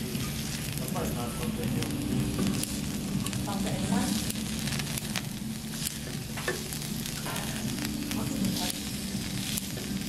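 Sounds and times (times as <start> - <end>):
pork sizzling on a griddle: 0.0 - 10.0.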